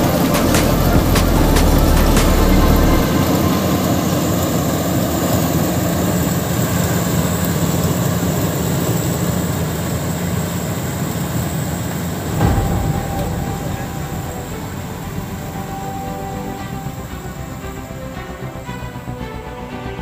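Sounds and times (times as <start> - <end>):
combine harvester rumbling: 0.0 - 9.1, 12.0 - 20.0
steady high whine: 0.0 - 9.6, 10.2 - 20.0.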